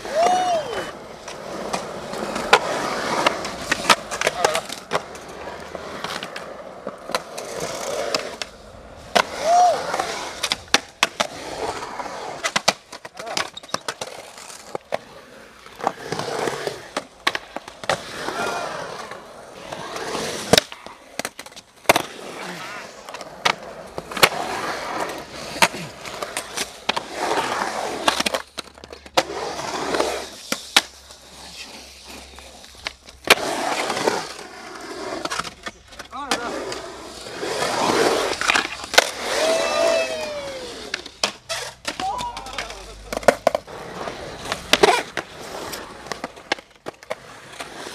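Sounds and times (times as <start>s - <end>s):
skateboard clacks: 0.0s - 15.1s, 15.7s - 31.0s, 35.1s - 47.9s
skateboard wheels rumbling on concrete: 0.0s - 47.9s.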